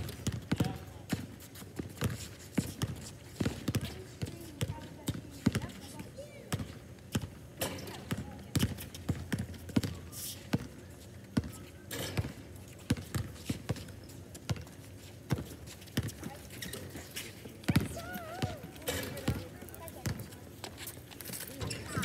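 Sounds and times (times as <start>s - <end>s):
basketball bouncing on hard court: 0.0s - 10.7s, 11.4s - 14.7s, 15.3s - 16.8s, 17.6s - 20.4s.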